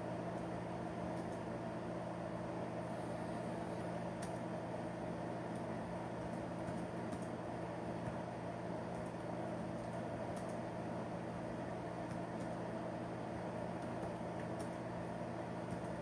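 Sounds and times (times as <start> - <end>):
low electrical hum and hiss: 0.0 - 16.0.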